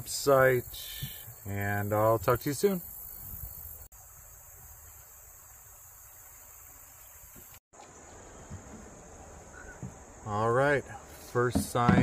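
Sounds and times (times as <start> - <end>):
insects buzzing: 0.0 - 11.9.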